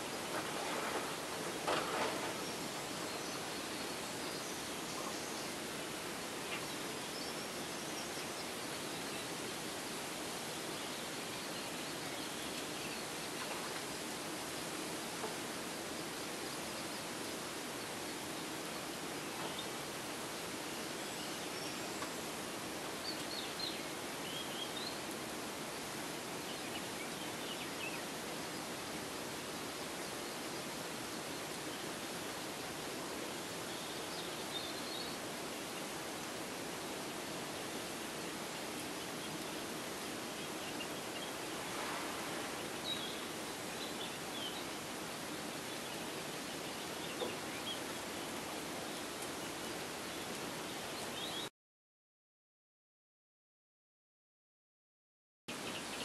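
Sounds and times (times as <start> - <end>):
outdoor background hiss: 0.0 - 51.5, 55.5 - 56.0.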